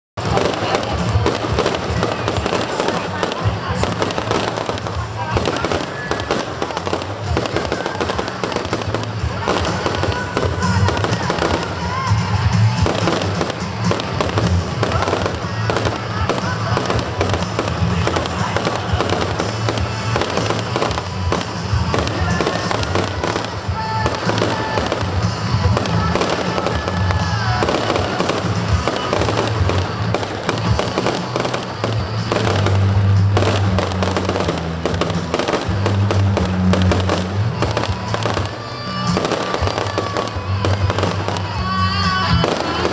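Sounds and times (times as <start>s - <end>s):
fireworks bangs and crackles: 0.2s - 42.9s.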